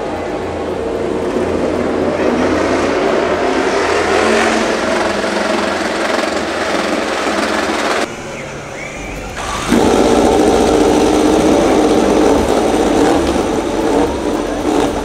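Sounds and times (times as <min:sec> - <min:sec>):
race bike engines droning: 0:00.0 - 0:15.0.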